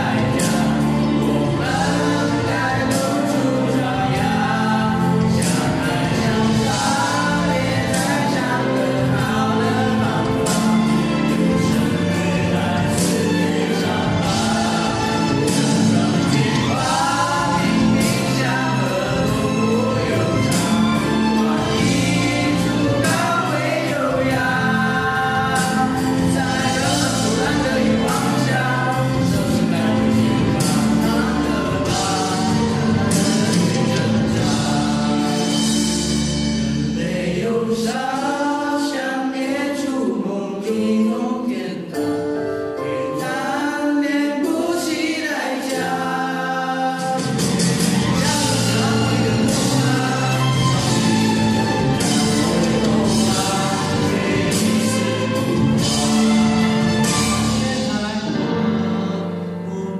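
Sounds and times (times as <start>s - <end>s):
group singing in harmony: 0.0s - 59.9s.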